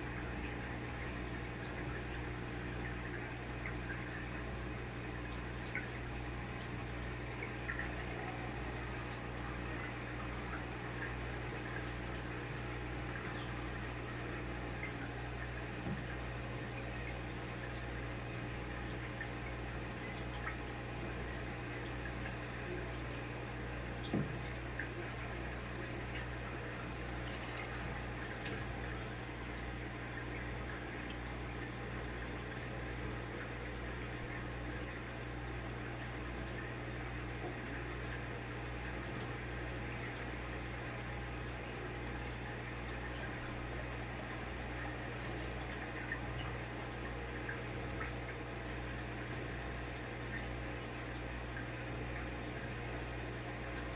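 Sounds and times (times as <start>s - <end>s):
aquarium pump humming: 0.0s - 53.9s
water bubbling: 0.1s - 53.9s.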